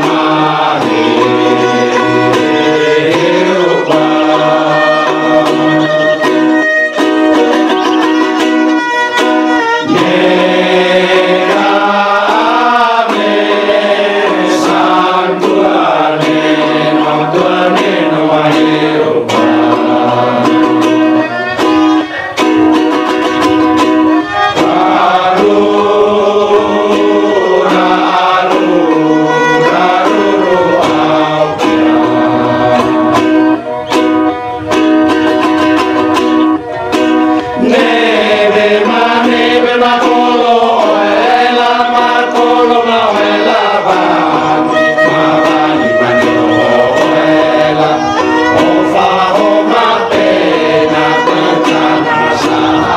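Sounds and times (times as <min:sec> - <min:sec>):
men's choir singing a hymn: 0:00.0 - 0:08.6, 0:09.4 - 0:22.7, 0:23.3 - 0:35.4, 0:37.0 - 0:52.9
bowed violin: 0:00.0 - 0:52.9
strummed string instrument: 0:00.0 - 0:52.9.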